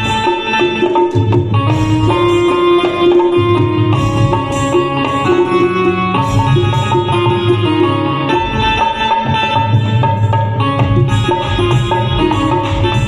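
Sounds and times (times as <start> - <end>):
barrel drum beat: 0.0 - 13.0
electronic keyboard melody: 0.0 - 13.0.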